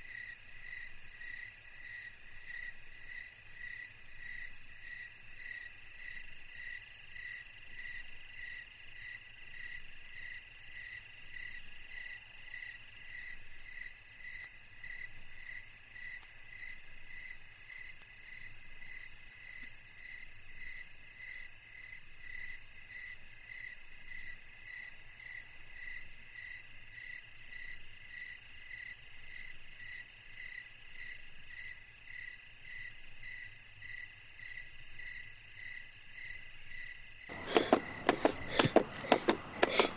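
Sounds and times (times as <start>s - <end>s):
cricket chirping: 0.0s - 39.9s
crickets trilling: 0.0s - 39.9s.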